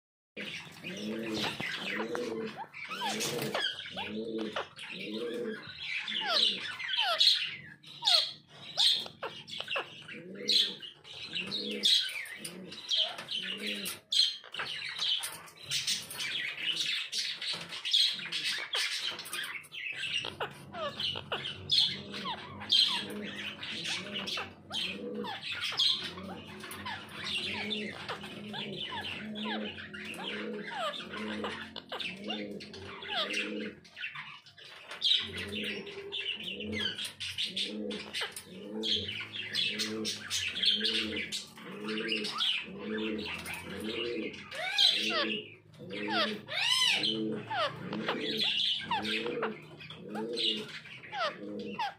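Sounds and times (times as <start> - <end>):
birds chirping and squawking: 0.4 - 51.9
low repeated cooing: 0.4 - 51.9.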